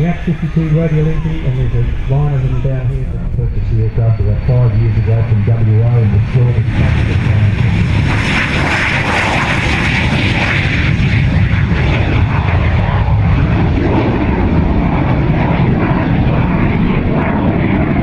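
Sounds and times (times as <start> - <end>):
jet engine whine: 0.0 - 18.0
jet low rumble: 0.0 - 18.0.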